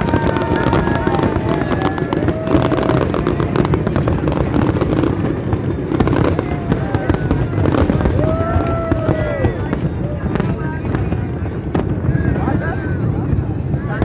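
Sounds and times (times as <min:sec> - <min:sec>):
fireworks crackling and popping: 0:00.0 - 0:14.0
fireworks whistling: 0:00.0 - 0:14.0.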